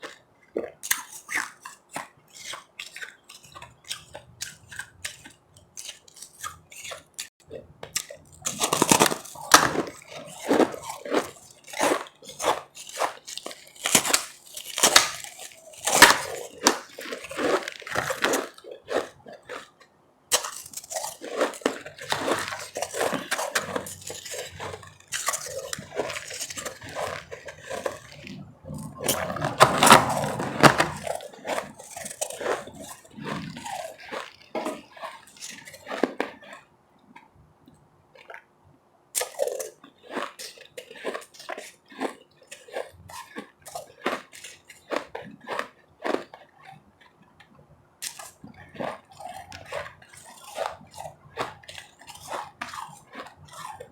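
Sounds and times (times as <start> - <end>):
ice being crunched and chewed: 0.0 - 53.9.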